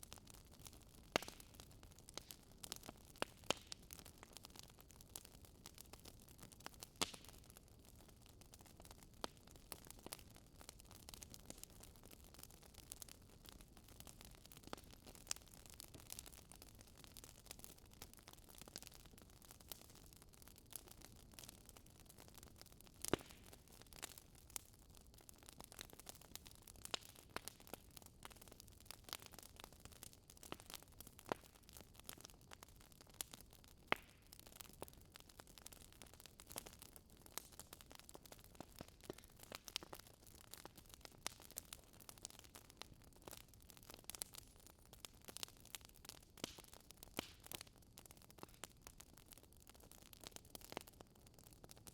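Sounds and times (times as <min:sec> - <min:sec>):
fire crackling in fireplace: 0:00.0 - 0:51.9.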